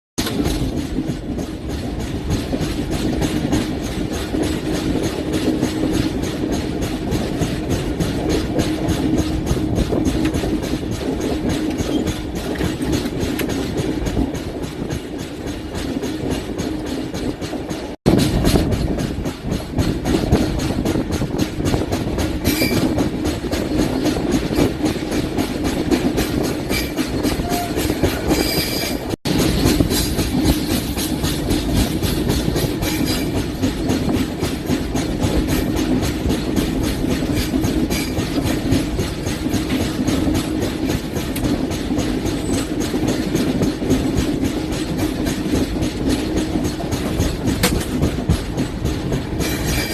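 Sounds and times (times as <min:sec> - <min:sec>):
rhythmic wheel knocking: 0:00.2 - 0:49.9
train bogies running on rails: 0:00.2 - 0:49.9.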